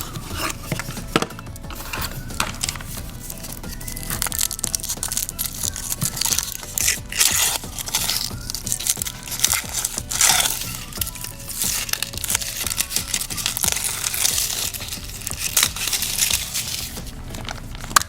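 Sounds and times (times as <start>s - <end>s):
background music: 0.0s - 18.0s
foil wrapper crinkling: 0.0s - 18.0s.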